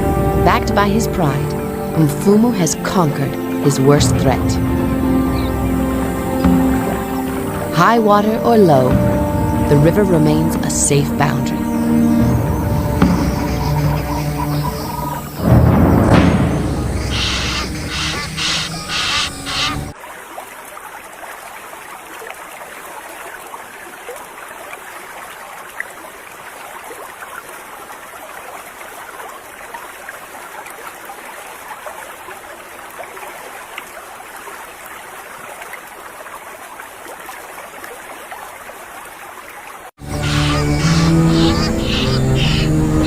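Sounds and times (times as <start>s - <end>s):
river water flowing: 0.0s - 43.0s.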